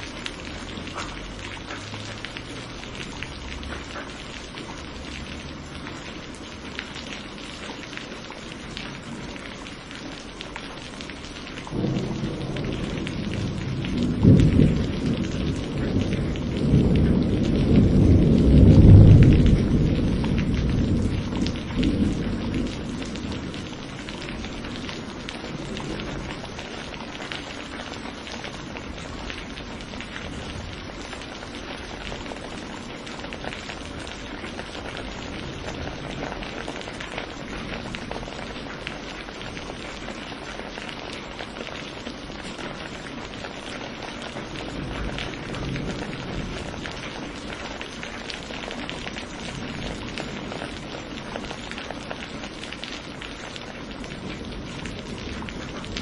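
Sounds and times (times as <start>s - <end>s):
steady rain: 0.0s - 56.0s
thunder rumbling: 11.0s - 56.0s.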